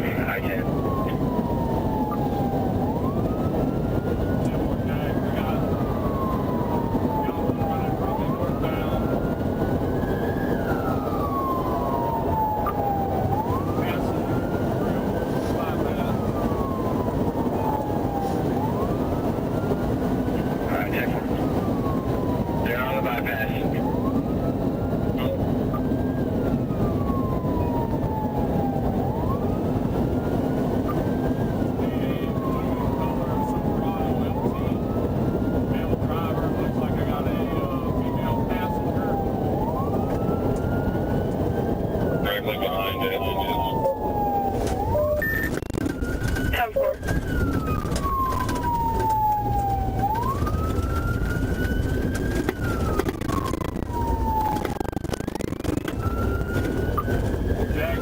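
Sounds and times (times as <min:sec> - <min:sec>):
car road and engine noise: 0:00.0 - 0:58.0
police siren wailing: 0:00.0 - 0:58.0.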